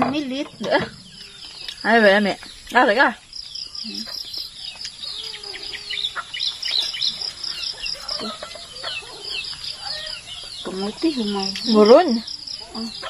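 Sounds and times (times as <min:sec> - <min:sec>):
chickens clucking: 0:00.0 - 0:13.0
high falling chirps: 0:00.0 - 0:13.0.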